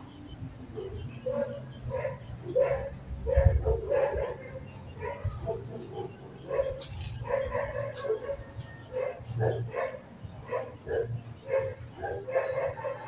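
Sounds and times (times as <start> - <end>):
dog barking and yipping: 0.7 - 13.0.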